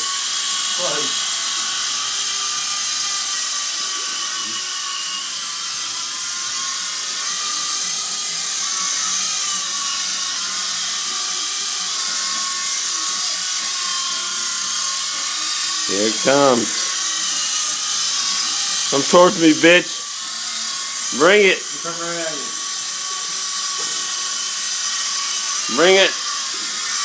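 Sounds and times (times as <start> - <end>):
toy helicopter rotor whining: 0.0 - 27.0.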